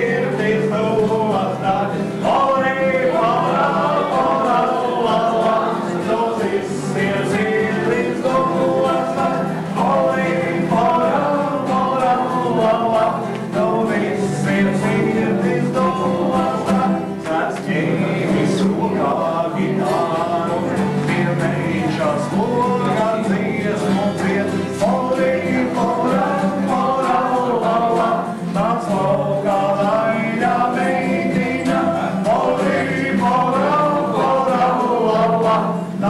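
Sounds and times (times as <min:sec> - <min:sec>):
group of voices singing: 0:00.0 - 0:36.0.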